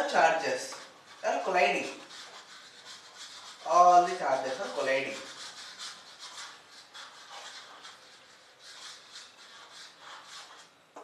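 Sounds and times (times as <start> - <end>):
writing tool scratching: 0.7 - 10.8.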